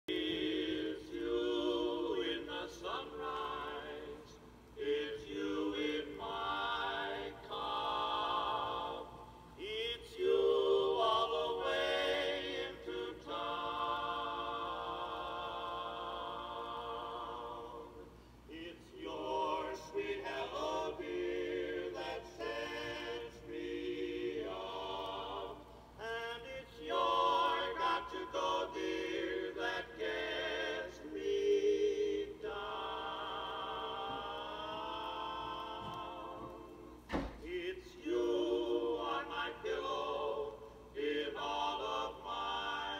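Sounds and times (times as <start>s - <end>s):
male quartet singing through small speaker: 0.1s - 42.9s.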